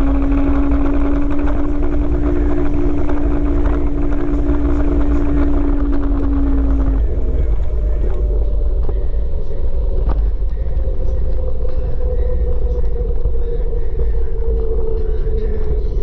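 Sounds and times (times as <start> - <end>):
faint motor whine: 0.0 - 16.0
wind buffeting camera: 0.0 - 16.0.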